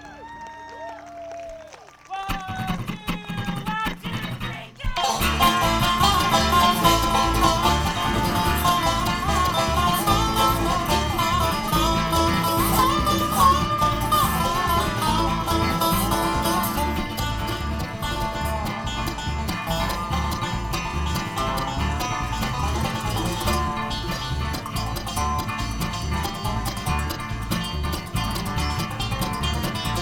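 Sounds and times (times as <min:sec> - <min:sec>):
plucked strings melody: 0:02.4 - 0:30.0
bluegrass band playing: 0:02.7 - 0:30.0
pulsing bass beat: 0:03.4 - 0:30.0.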